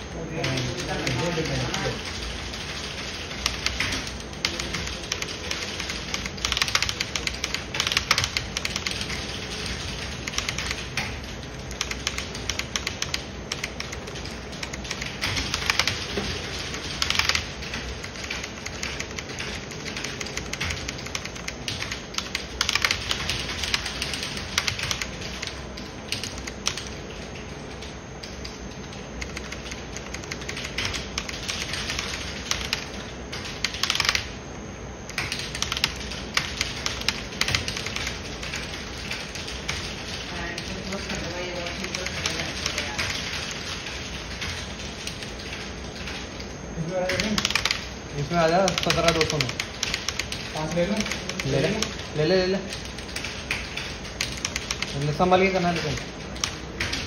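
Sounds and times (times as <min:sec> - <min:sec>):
computer keyboard typing: 0:00.0 - 0:57.0.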